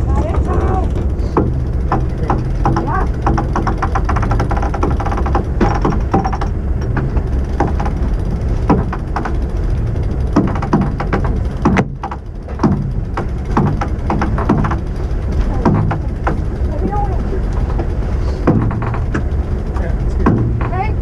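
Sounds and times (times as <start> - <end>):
deck gear knocking: 0.0 - 21.0
rapid clicking: 0.0 - 21.0
wind buffeting microphone: 0.0 - 21.0.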